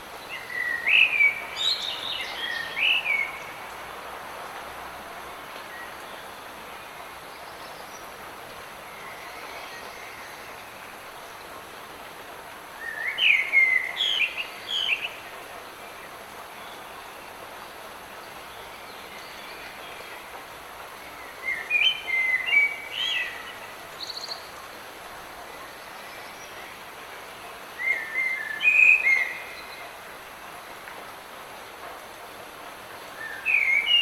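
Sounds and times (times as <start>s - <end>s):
light rain falling: 0.0s - 34.0s
songbirds chirping: 0.0s - 34.0s.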